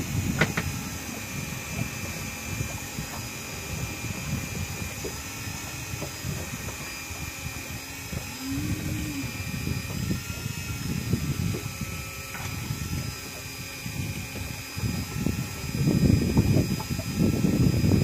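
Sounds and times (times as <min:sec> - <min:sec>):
electric fishing reel whining: 0:00.0 - 0:18.0
gusty wind: 0:00.0 - 0:18.0
water noise: 0:00.0 - 0:18.0.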